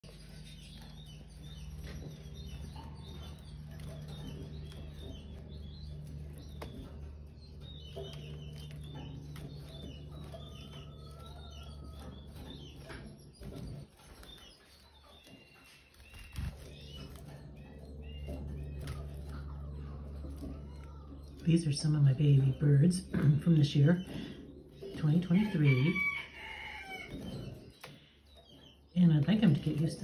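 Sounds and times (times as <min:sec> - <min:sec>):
fluttering wing beats: 0:00.0 - 0:28.0
steady low hum: 0:00.0 - 0:30.0
young canaries chirping: 0:00.0 - 0:30.0.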